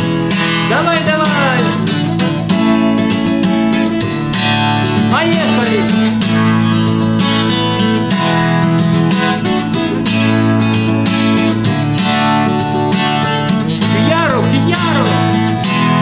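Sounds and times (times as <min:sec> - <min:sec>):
acoustic guitar strummed briskly: 0:00.0 - 0:16.0.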